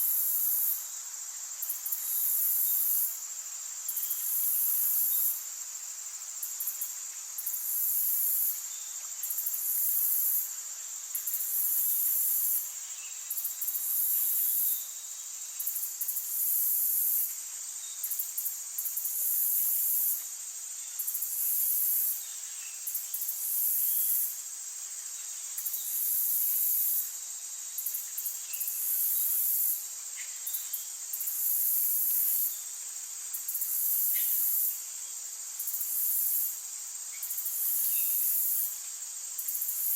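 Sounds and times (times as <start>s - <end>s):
insects calling in pulses: 0.0s - 39.9s.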